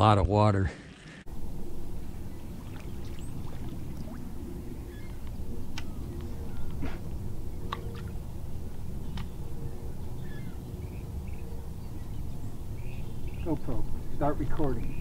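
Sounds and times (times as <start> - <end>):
faint hum: 1.2 - 15.0
low rumble: 1.3 - 15.0
bird chirps: 1.4 - 15.0.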